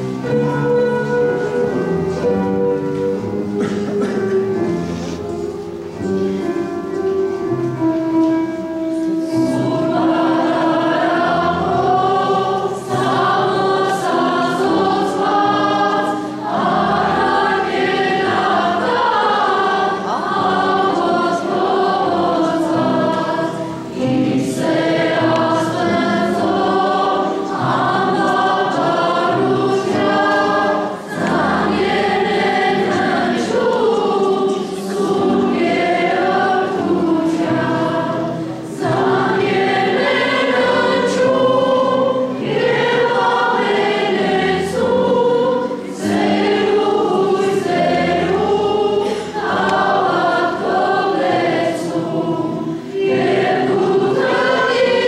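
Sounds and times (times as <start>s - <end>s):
children's choir singing: 0.0s - 55.0s
instrumental accompaniment: 0.0s - 55.0s.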